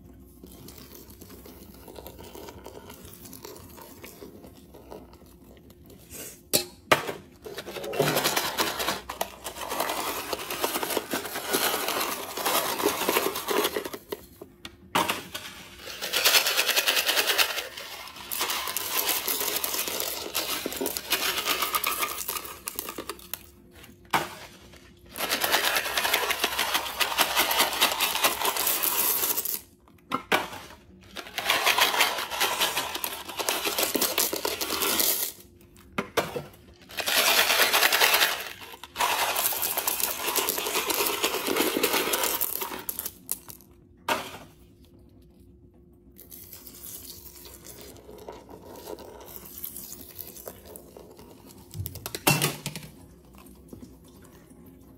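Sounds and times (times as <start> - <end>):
candies clattering into toilet bowl: 6.9 - 44.6, 46.2 - 53.7.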